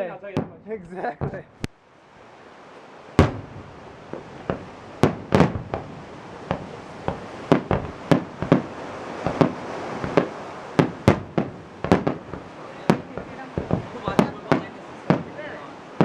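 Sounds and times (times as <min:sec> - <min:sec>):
fireworks bangs with echo: 0:00.0 - 0:01.6, 0:03.1 - 0:16.0.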